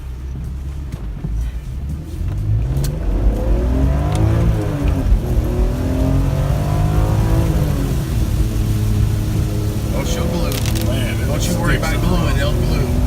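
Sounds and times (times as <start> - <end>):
car engine revving hard: 1.4 - 13.0.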